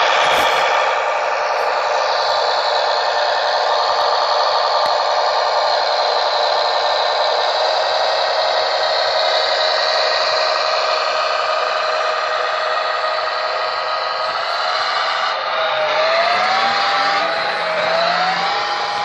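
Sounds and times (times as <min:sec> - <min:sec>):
diesel engine sound from small loudspeaker: 0:00.0 - 0:19.0.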